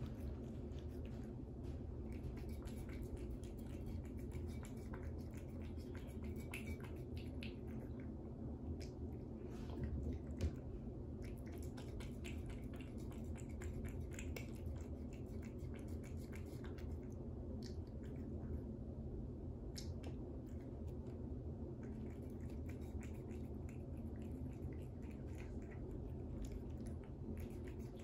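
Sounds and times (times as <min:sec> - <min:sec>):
cat chewing: 0:00.0 - 0:18.8, 0:19.6 - 0:28.0.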